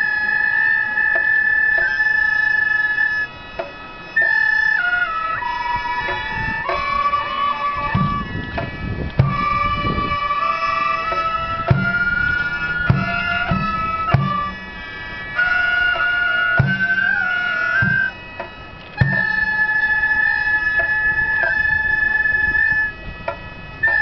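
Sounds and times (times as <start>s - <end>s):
drum strokes: 0.0s - 24.0s
gliding reed melody: 0.0s - 24.0s
mouth organ chords: 0.0s - 24.0s.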